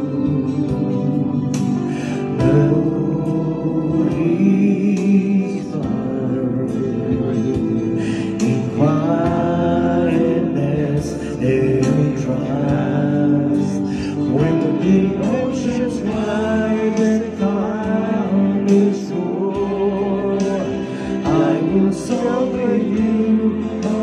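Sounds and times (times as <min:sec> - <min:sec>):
guitar accompaniment: 0:00.0 - 0:24.0
man singing into microphone: 0:00.0 - 0:24.0.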